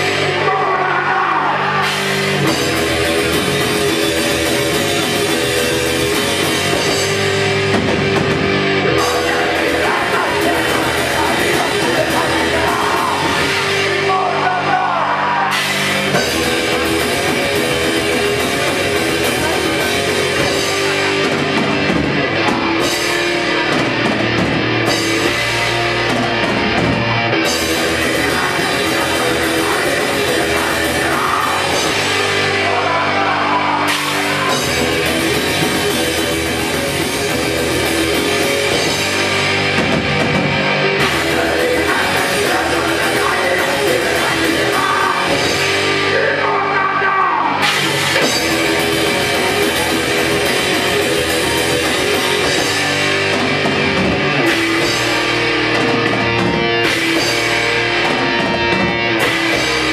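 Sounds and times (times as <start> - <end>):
distorted electric guitar: 0.0 - 59.9
drum kit: 0.0 - 59.9.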